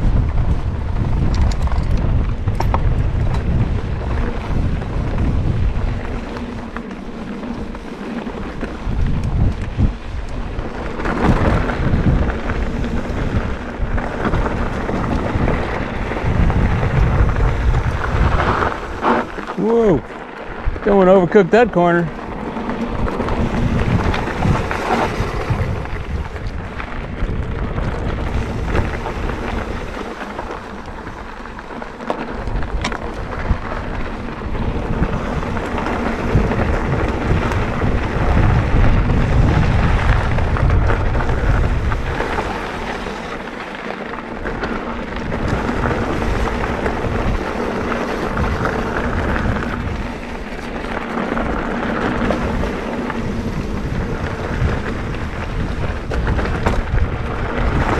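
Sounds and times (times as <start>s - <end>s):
bike tyres crunching on gravel: 0.0s - 57.9s
wind rumbling on microphone: 0.0s - 57.9s.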